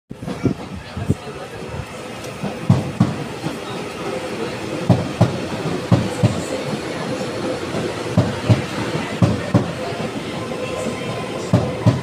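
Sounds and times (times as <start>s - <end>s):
steady train hum: 0.1s - 12.0s.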